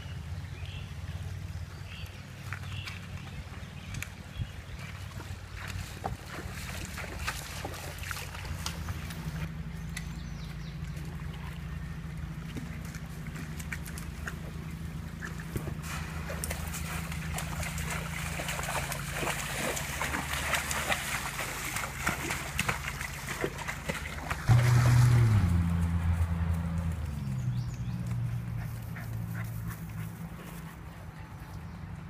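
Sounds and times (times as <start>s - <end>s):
low steady hum: 0.0s - 32.0s
splashing through shallow water: 0.2s - 30.8s.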